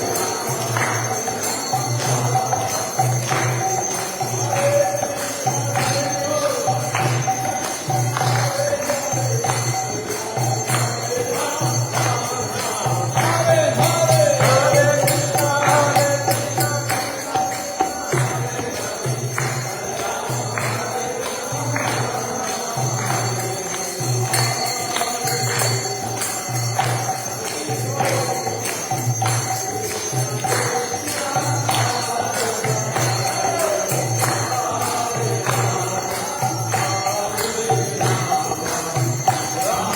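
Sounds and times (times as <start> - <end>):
group chanting: 0.0 - 39.9
hand cymbals struck: 0.0 - 39.9.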